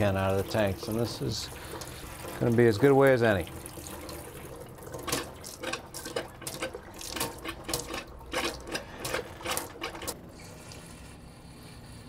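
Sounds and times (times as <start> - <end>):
faucet running into metal sink: 0.0 - 10.2
foot pump spurting water: 0.0 - 10.8.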